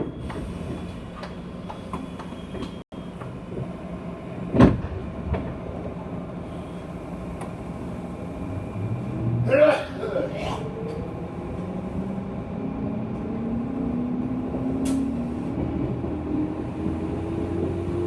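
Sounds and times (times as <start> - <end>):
train car hum: 0.0 - 18.0.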